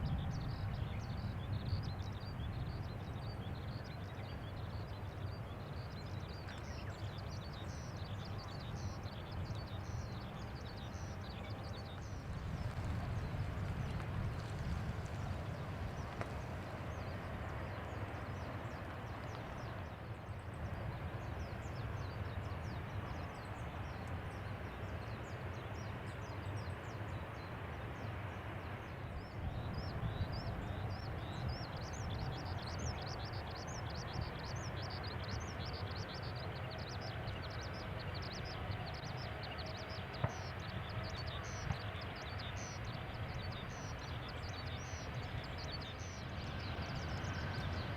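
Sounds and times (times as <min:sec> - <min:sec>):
jet engines rumbling: 0:06.9 - 0:47.9.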